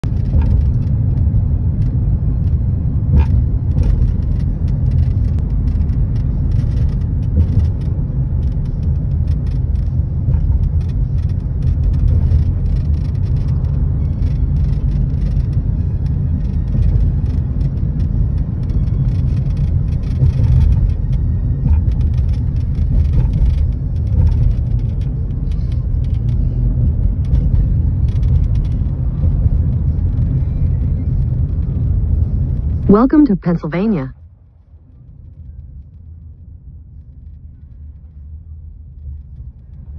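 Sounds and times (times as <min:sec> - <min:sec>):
car engine: 0:00.0 - 0:39.9
road and tyre noise: 0:00.0 - 0:39.9.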